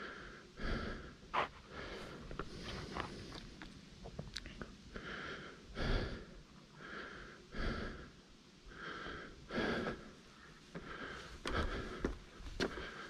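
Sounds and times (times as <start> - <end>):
person breathing heavily: 0.0 - 3.7, 4.9 - 13.0.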